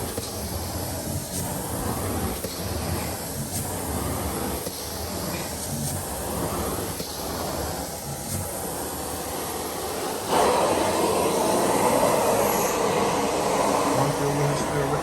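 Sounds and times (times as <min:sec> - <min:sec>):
carpet cleaning machine suction: 0:00.0 - 0:15.0.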